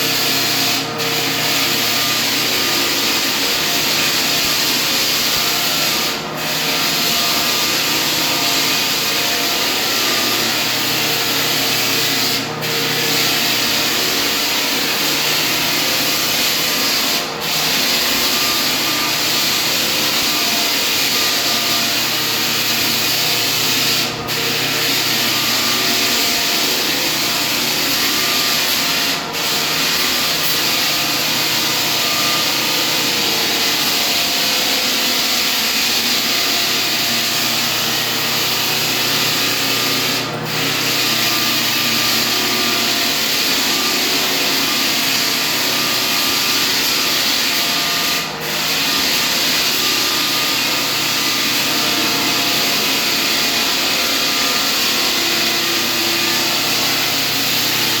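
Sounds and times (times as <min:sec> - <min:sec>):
floor sanding machine running: 0:00.0 - 0:58.0.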